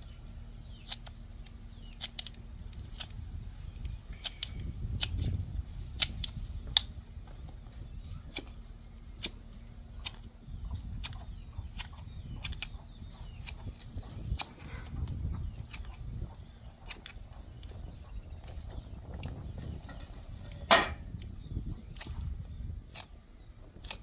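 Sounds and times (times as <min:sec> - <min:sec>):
metallic clicks and ticks: 0:00.6 - 0:07.6, 0:08.3 - 0:22.3, 0:22.9 - 0:23.2, 0:23.8 - 0:24.0.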